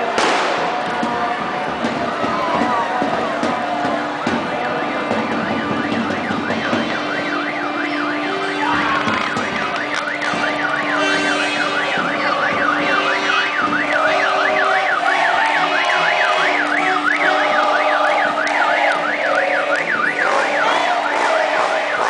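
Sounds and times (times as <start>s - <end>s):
crowd in the street: 0.0s - 22.0s
electronic siren wailing: 1.2s - 22.0s.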